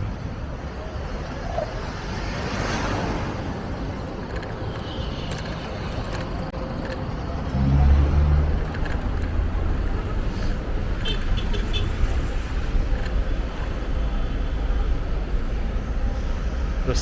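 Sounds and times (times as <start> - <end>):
city traffic: 0.0 - 17.0.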